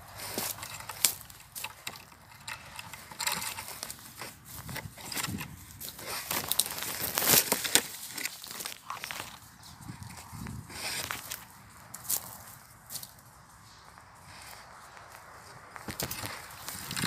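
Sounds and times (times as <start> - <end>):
rustling and crackling: 0.0 - 17.0.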